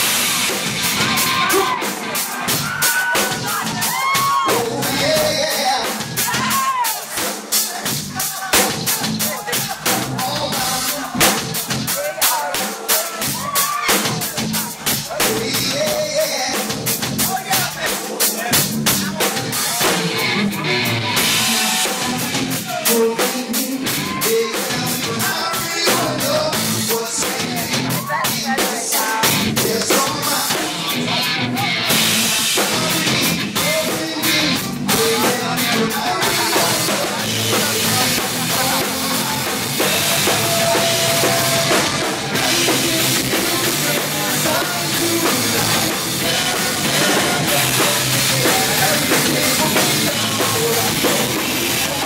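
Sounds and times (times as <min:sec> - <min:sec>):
drum hits: 0:00.0 - 0:20.3, 0:21.2 - 0:30.9, 0:31.9 - 0:52.0
rock band playing: 0:00.0 - 0:52.0.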